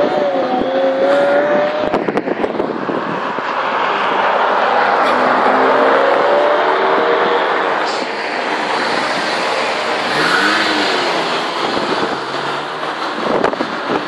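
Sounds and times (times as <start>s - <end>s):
car engine passing by: 0.0s - 14.0s.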